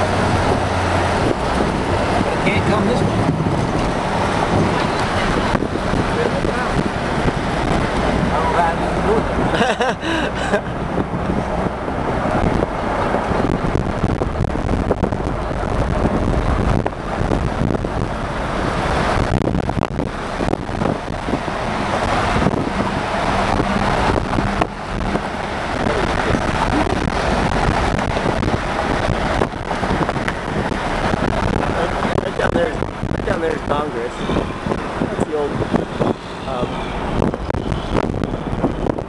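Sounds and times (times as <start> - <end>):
road traffic noise: 0.0 - 39.0
wind buffeting microphone: 0.0 - 39.0.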